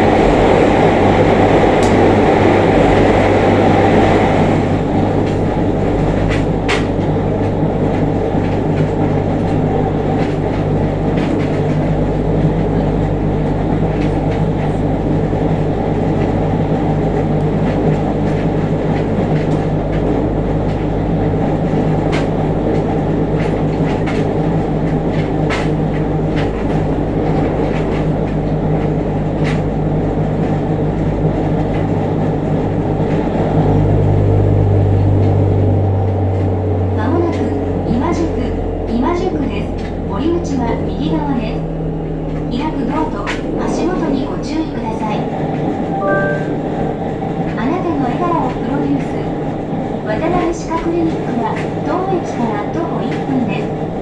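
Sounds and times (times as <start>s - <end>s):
train traction motor hum and growl: 0.0s - 46.0s.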